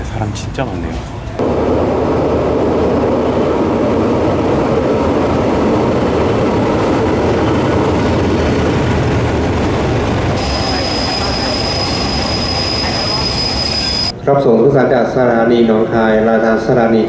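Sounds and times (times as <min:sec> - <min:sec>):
diesel train engine and wheels: 0:00.0 - 0:14.3.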